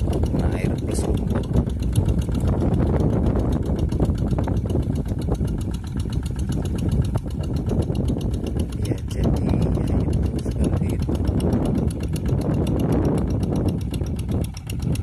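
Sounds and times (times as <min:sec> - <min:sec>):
hand tractor engine running: 0:00.0 - 0:15.0.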